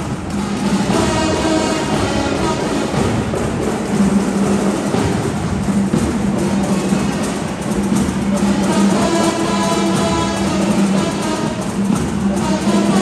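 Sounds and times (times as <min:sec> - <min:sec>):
drums: 0:00.0 - 0:13.0
marching band playing: 0:00.0 - 0:13.0.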